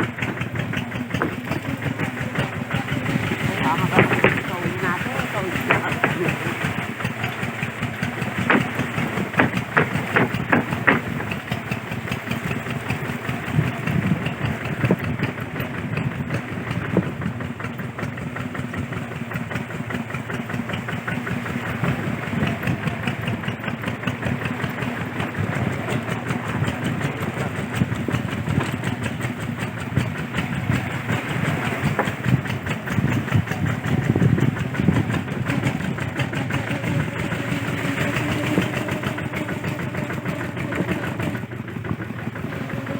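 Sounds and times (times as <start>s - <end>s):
diesel engine running: 0.0s - 42.9s
engine knocks: 0.0s - 42.9s.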